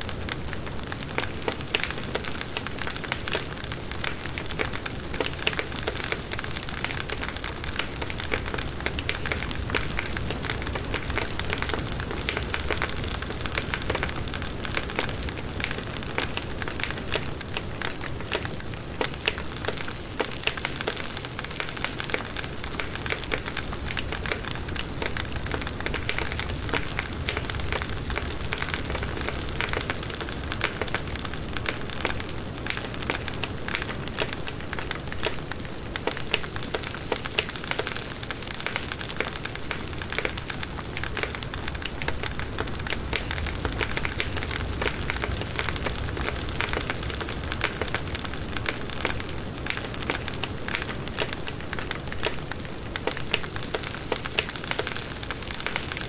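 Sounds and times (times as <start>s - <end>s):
burning wood crackling: 0.0s - 56.0s
campfire flames hissing: 0.1s - 56.0s.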